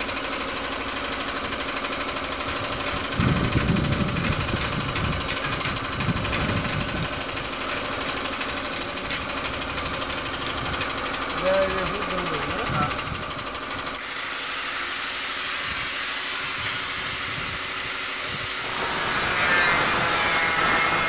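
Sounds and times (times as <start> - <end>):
air compressor running: 0.0 - 21.0.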